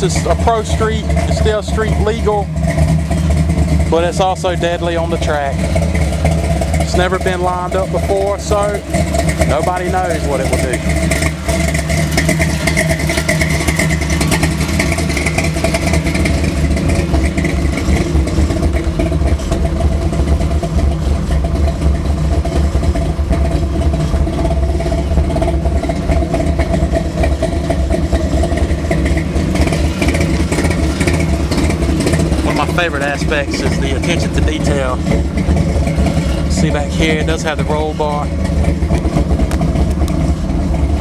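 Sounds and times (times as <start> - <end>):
car engine idling loudly: 0.0 - 41.0.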